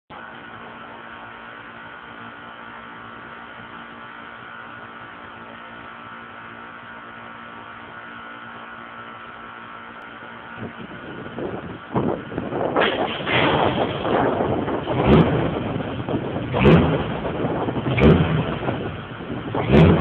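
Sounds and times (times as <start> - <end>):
car engine idling: 0.1 - 20.0.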